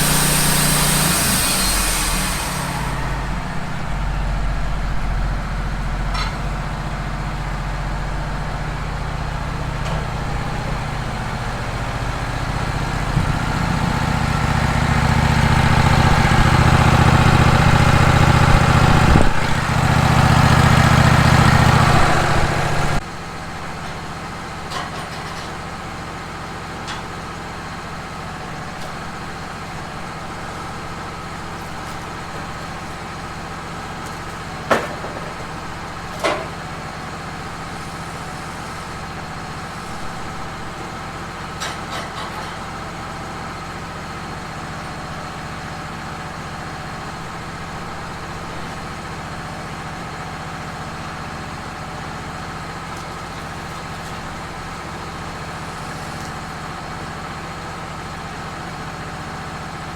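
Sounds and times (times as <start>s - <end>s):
sawmill running: 0.0s - 23.0s, 24.9s - 59.9s.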